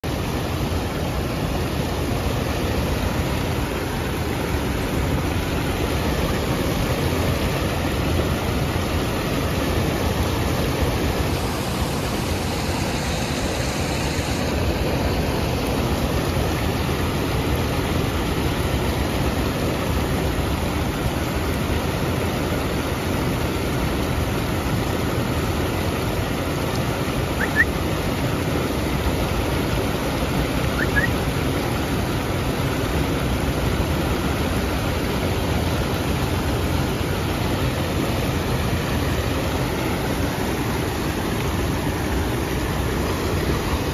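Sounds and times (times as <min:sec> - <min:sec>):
waterfall pouring: 0:00.0 - 0:43.9.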